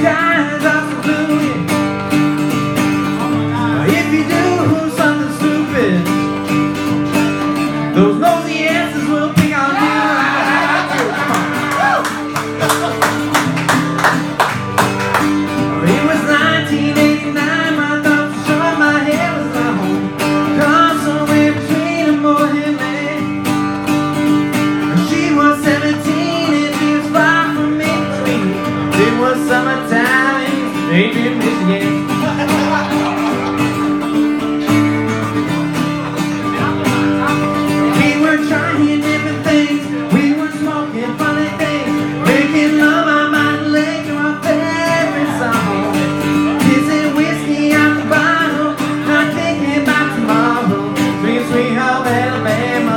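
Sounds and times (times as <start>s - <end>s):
country song with guitar: 0.0s - 52.9s.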